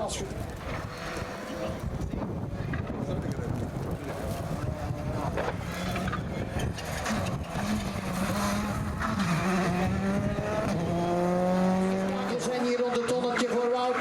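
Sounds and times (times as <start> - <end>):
rally car engine accelerating: 0.2 - 14.0.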